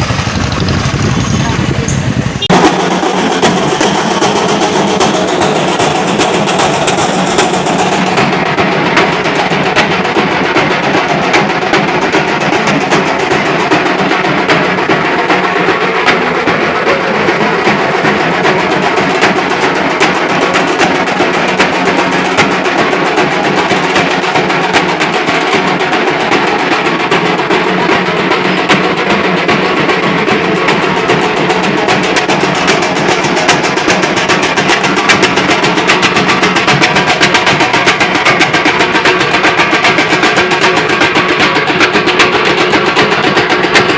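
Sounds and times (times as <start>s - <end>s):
drum troupe drumming fast rhythm: 0.0s - 43.9s.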